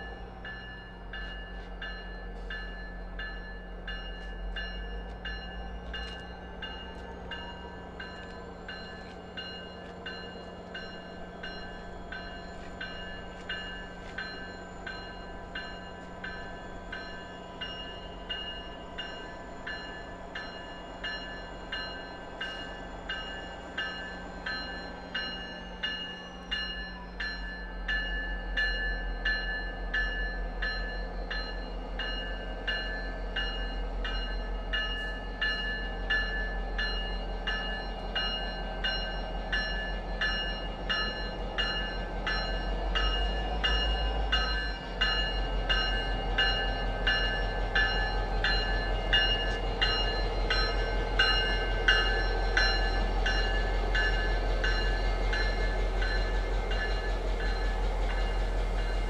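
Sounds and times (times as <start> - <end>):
diesel locomotive rumble: 0.0 - 59.0
train cars rolling past: 0.0 - 59.0.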